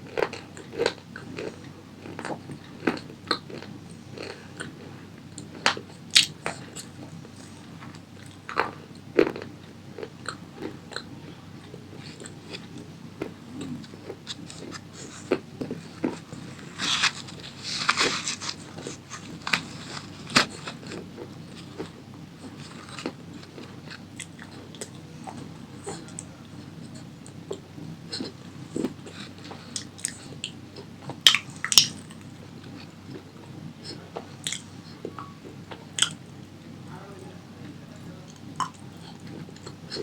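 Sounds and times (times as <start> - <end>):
person chewing crunchy snack: 0.1 - 26.1, 26.8 - 33.3, 36.0 - 36.2.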